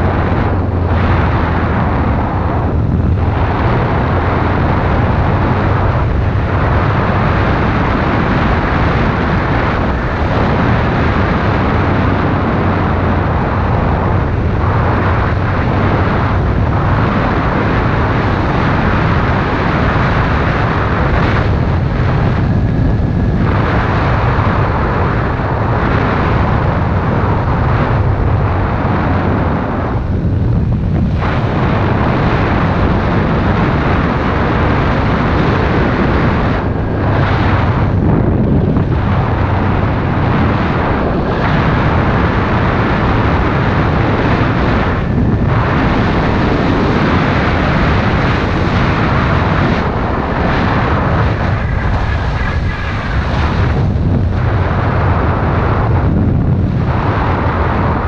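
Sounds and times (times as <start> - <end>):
motorcycle engine running: 0.0 - 57.1
wind rush on microphone: 0.0 - 58.0.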